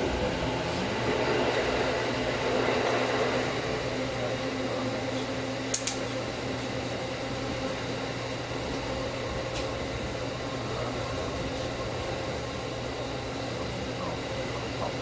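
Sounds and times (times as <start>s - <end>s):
train car hum and rumble: 0.0s - 15.0s.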